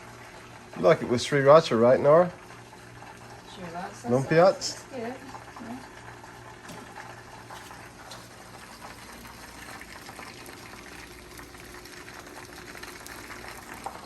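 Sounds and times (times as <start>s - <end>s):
spring rolls frying in oil: 0.0s - 14.0s.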